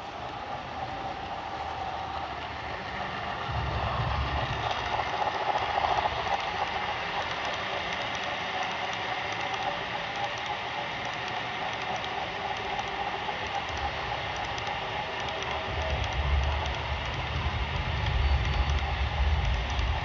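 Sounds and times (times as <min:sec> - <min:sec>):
faint clicking of cars: 0:00.0 - 0:20.0
model train wheels rumbling: 0:00.0 - 0:20.0.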